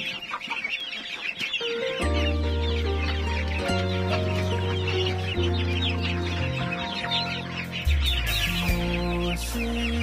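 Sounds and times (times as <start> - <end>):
hens clucking: 0.0 - 9.9
background music with bass line: 1.8 - 10.0.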